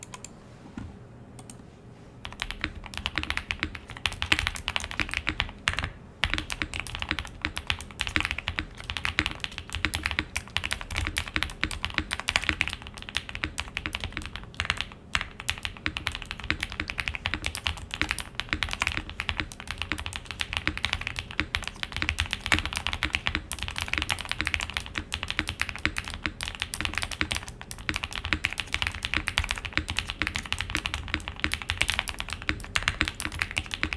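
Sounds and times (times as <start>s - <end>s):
mechanical keyboard typing: 0.0s - 0.3s, 2.2s - 33.9s.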